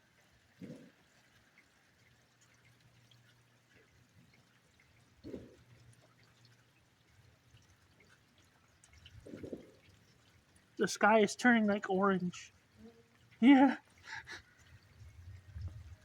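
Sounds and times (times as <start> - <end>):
faint rain: 0.0 - 16.0.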